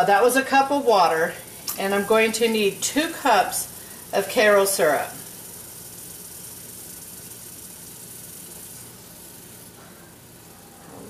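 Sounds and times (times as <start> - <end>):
sugar sizzling in a saucepan: 0.0 - 10.8.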